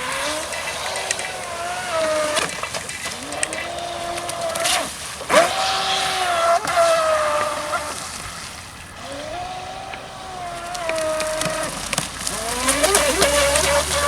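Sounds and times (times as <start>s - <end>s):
model boat motor whining: 0.0s - 14.0s
water noise: 0.0s - 14.0s.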